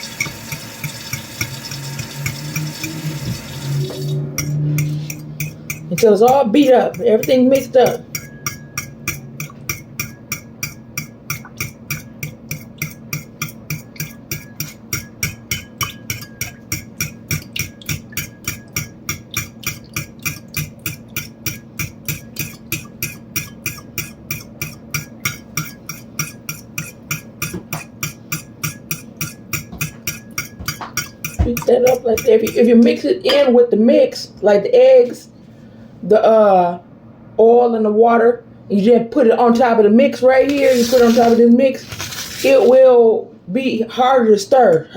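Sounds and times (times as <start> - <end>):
utensil beating eggs in bowl: 0.0 - 33.5, 39.4 - 42.8.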